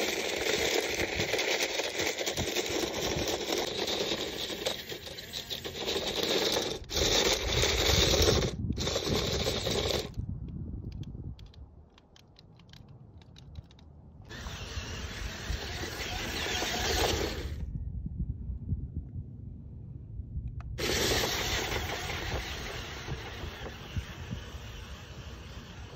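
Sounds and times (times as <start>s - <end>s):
toy car driving over gravel: 0.0s - 10.2s, 11.0s - 17.7s, 20.8s - 25.9s.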